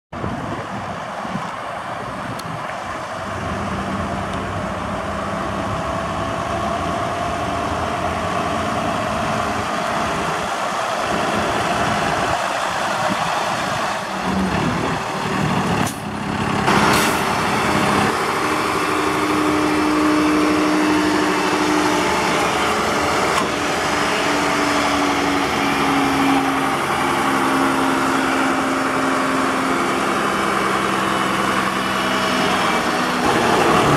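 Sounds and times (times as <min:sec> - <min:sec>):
diesel truck engine: 0:00.1 - 0:33.9.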